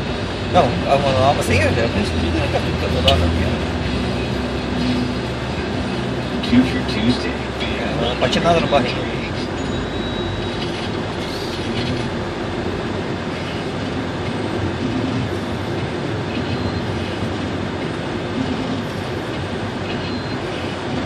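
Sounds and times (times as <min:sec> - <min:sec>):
tyres rumbling on gravel: 0:00.0 - 0:20.2
car engine hum: 0:00.0 - 0:21.0.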